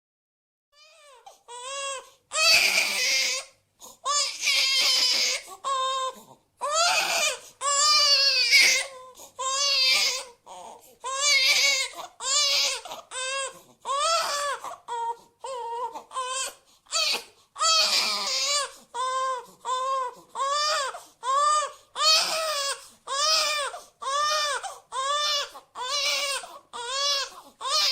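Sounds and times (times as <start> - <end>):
baby crying: 0.8 - 27.9.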